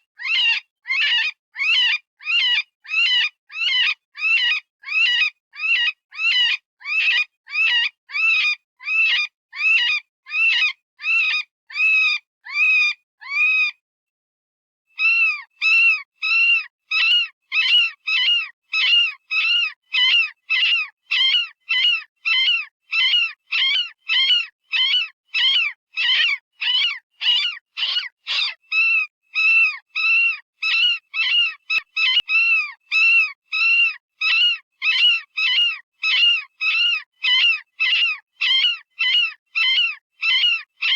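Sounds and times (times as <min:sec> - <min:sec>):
high-pitched rabbit distress scream: 0:00.2 - 0:13.8, 0:15.0 - 0:40.9.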